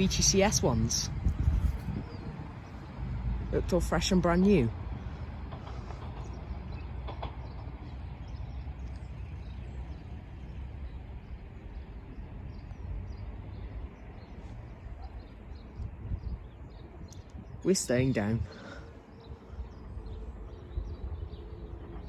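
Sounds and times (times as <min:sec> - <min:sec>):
diesel train rumble: 0:00.0 - 0:22.0.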